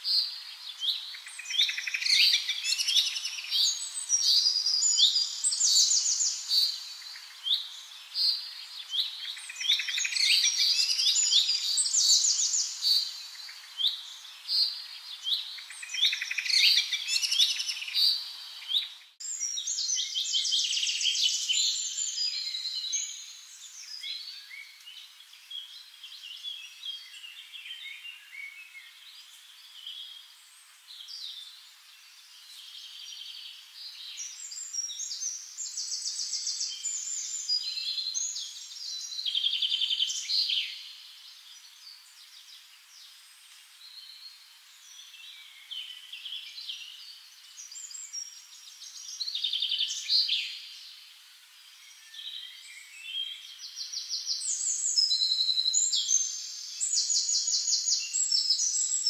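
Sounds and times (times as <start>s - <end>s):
birds chirping and trilling: 0.0s - 51.1s, 51.7s - 59.0s.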